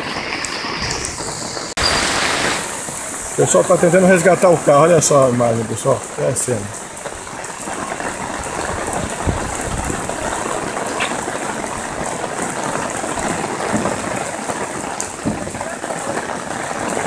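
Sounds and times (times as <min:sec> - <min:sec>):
heavy rain on flooded street: 0:00.0 - 0:17.0.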